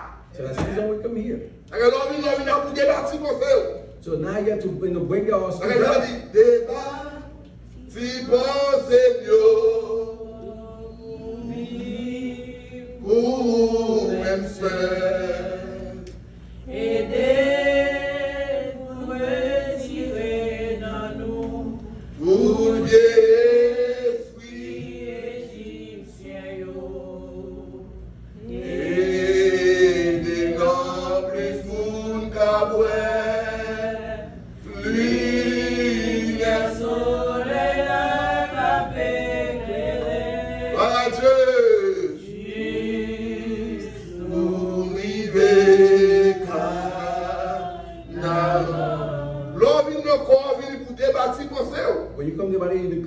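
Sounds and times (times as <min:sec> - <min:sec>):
voices singing a hymn: 0:05.5 - 0:52.2.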